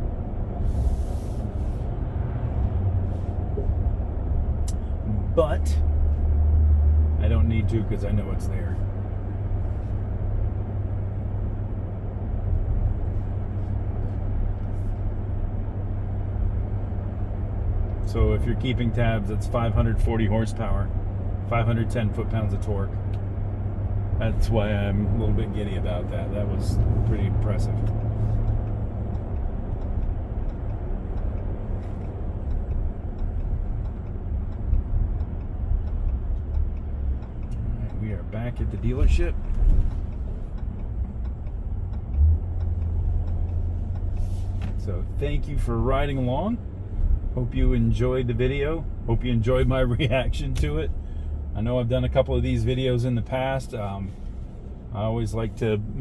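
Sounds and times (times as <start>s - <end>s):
road and drivetrain rumble in cab: 0.0s - 56.0s
turn signal ticking: 1.5s - 56.0s.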